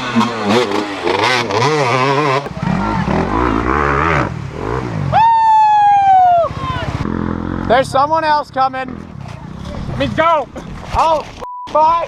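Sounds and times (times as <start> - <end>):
dirt bike engines revving: 0.0 - 11.4.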